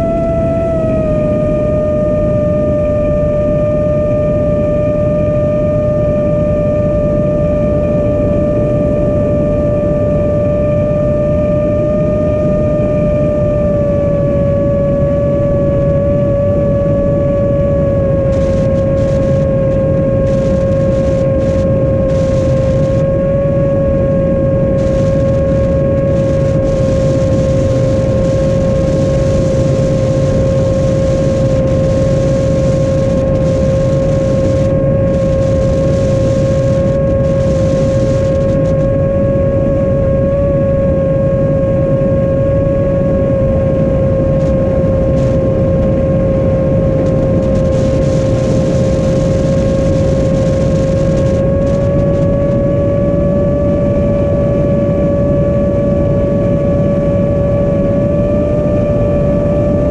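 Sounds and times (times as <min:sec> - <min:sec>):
drone motors whining: 0:00.0 - 0:41.0, 0:43.3 - 0:54.4
wind noise: 0:00.0 - 0:59.9.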